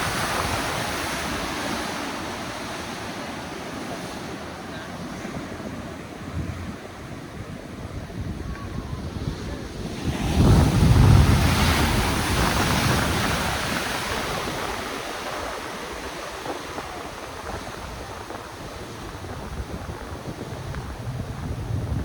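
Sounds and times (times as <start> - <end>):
ocean wave breaking: 0.0 - 22.0
wind buffeting microphone: 0.0 - 22.0.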